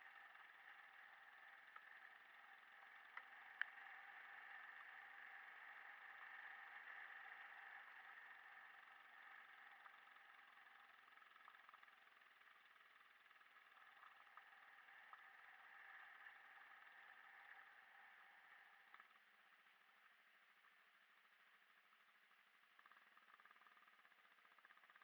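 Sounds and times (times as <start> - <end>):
faint engine drone: 0.0 - 25.0
light ticks: 0.0 - 25.0.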